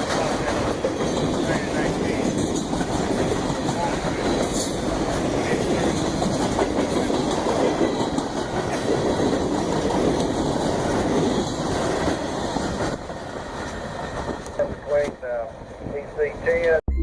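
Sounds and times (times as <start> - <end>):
freight train wheels clattering: 0.0 - 15.1.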